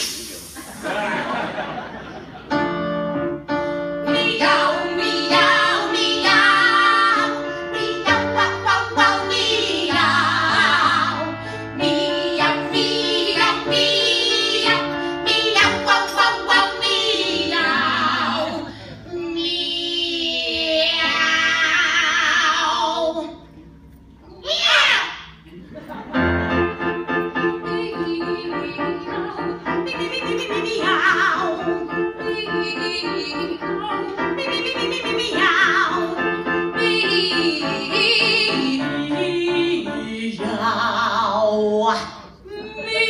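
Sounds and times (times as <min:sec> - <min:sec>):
women singing a duet: 0:04.0 - 0:23.3, 0:27.4 - 0:43.0.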